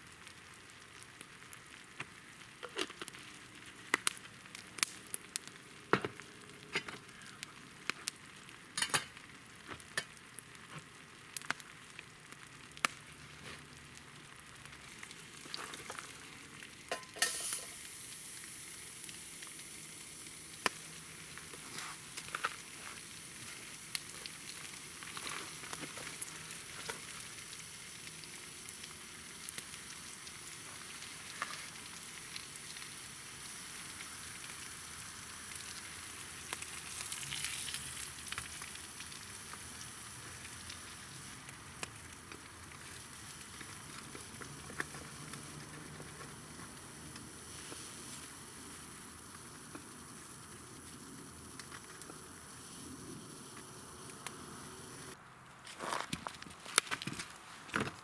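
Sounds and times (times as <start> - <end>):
food sizzling in a pan: 0.0 - 55.2
sharp pops of frying: 0.2 - 13.2, 13.9 - 52.6.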